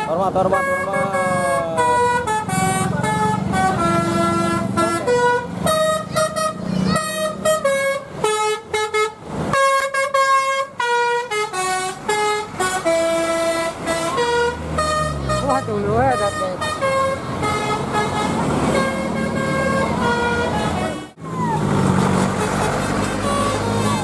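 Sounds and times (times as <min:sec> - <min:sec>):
musical bus horn tune: 0:00.0 - 0:21.2, 0:22.2 - 0:24.0
bus engine running: 0:00.0 - 0:24.0.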